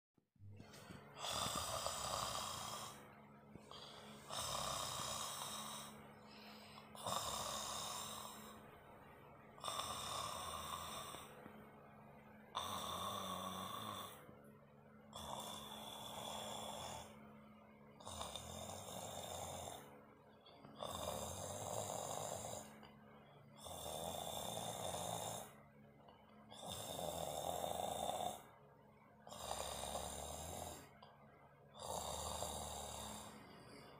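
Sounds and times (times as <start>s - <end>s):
quiet breathing: 0.5s - 33.9s
person snoring: 0.6s - 11.6s, 12.4s - 14.3s, 15.1s - 17.2s, 17.9s - 25.6s, 26.5s - 28.6s, 29.2s - 31.1s, 31.7s - 33.9s.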